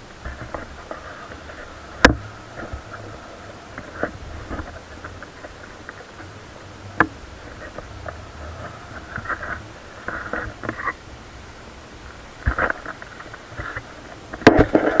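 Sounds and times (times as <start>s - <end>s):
low steady rumble: 0.0s - 15.0s
water splashing against kayak hull: 0.0s - 15.0s.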